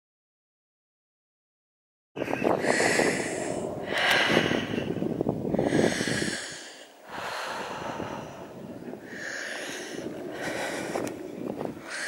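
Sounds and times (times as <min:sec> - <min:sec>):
heavy breathing close to microphone: 0:02.2 - 0:12.0
wind buffeting microphone: 0:02.2 - 0:12.0.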